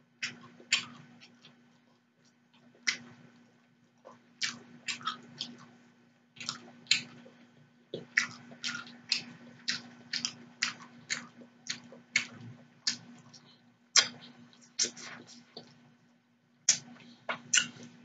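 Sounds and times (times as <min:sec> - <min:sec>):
person chewing food: 0:00.2 - 0:05.8, 0:06.4 - 0:15.8, 0:16.7 - 0:18.0.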